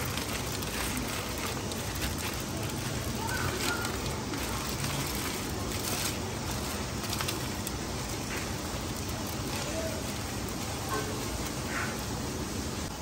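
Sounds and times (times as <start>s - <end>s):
aluminium foil crinkling: 0.0s - 12.9s
steady hiss: 0.0s - 13.0s.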